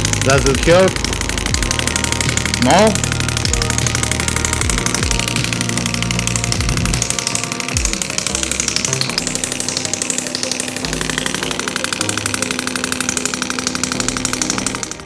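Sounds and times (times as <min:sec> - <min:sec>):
rapid even clicking: 0:00.0 - 0:15.0.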